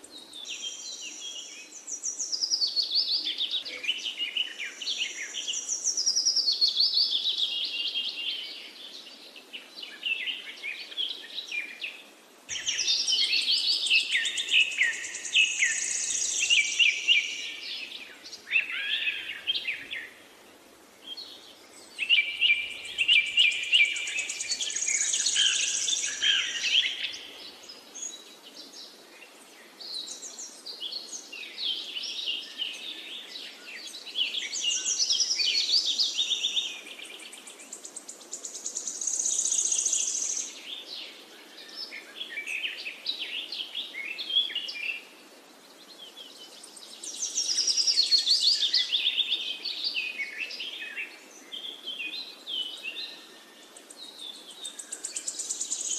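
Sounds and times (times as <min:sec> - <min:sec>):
faint steady background noise: 0:00.0 - 0:55.9
songbirds chirping and trilling: 0:00.0 - 0:55.9.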